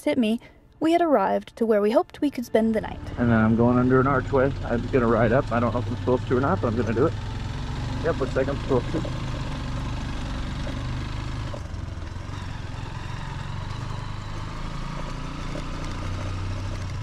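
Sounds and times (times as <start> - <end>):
motorcycle engine running: 3.0 - 17.0.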